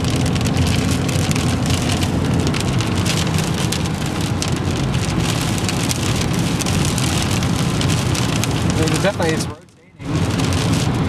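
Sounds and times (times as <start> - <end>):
low rumble of car: 0.0 - 11.0
rain pattering on car roof: 0.0 - 11.0.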